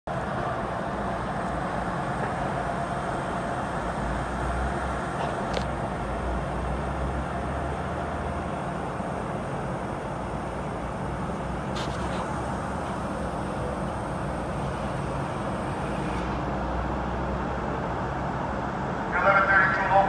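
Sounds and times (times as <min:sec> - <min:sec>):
electric railcar humming: 0:00.1 - 0:20.0.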